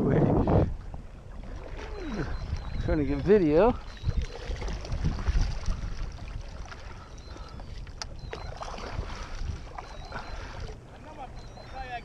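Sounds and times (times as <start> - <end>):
wind noise: 0.0 - 10.7
water noise: 0.0 - 12.0.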